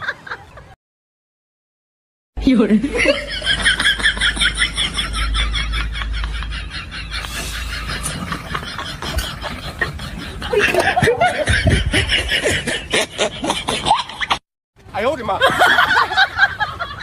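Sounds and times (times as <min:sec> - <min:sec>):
hearty laughter: 0:00.0 - 0:00.8, 0:02.9 - 0:14.4, 0:15.4 - 0:17.0.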